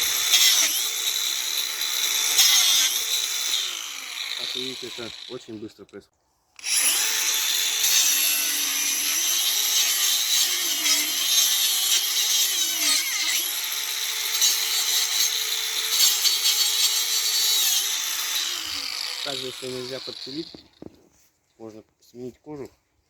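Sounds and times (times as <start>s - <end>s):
angle grinder cutting wood: 0.0s - 5.7s, 6.6s - 21.0s.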